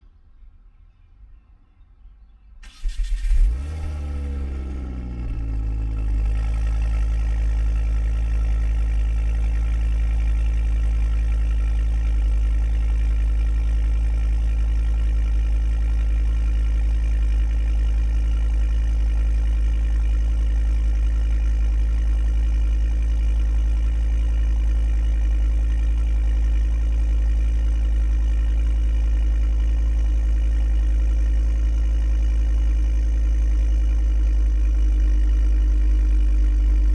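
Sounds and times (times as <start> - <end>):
car engine cold start and idle: 2.6 - 36.9.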